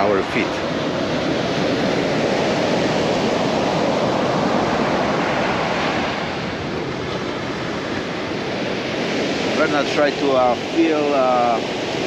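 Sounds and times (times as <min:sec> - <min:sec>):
waves breaking on beach: 0:00.0 - 0:12.0
wind on microphone: 0:00.0 - 0:12.0.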